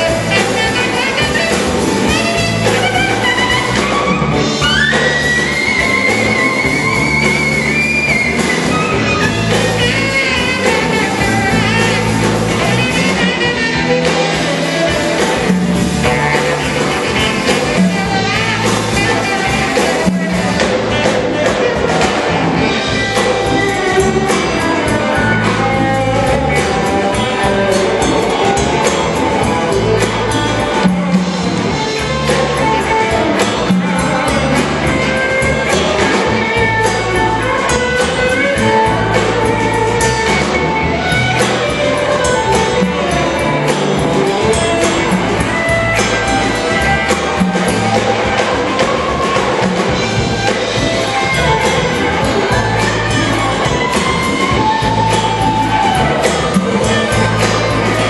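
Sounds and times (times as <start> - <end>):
blues-rock band playing: 0.0 - 58.0
saxophone lead: 0.0 - 58.0.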